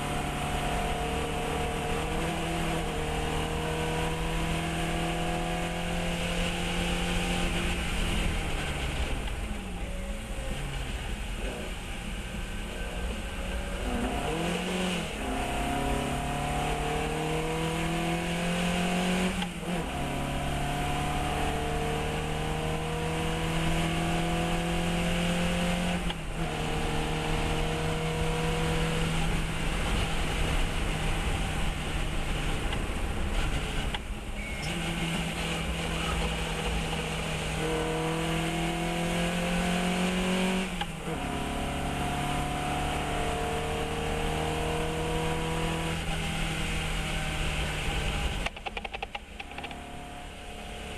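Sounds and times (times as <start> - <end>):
race car engine at high revs: 0.0 - 50.9.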